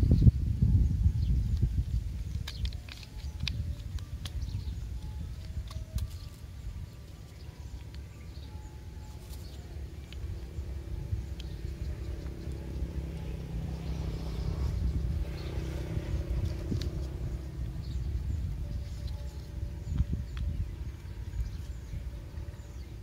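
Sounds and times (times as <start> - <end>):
motor-like hum: 0.0 - 23.0
low rumble: 3.2 - 23.0.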